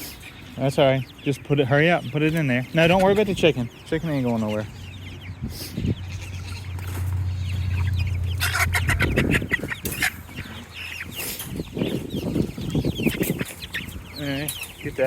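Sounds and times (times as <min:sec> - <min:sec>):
chickens peeping and clucking: 0:00.0 - 0:15.0.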